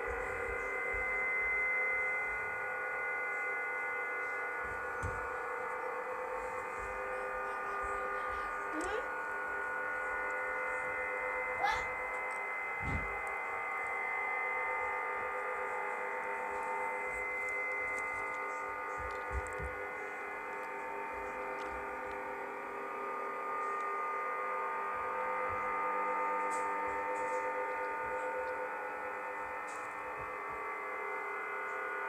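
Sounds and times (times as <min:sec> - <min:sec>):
droning hum of layered tones: 0:00.0 - 0:32.0.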